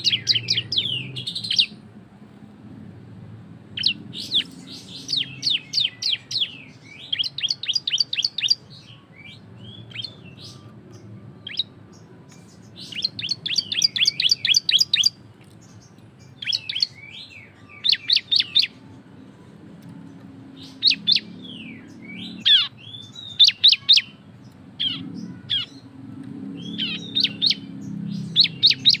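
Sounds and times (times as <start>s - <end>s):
bird chirping rapidly: 0.0s - 1.8s, 3.8s - 18.8s, 20.5s - 24.2s, 24.8s - 25.9s, 26.5s - 29.0s.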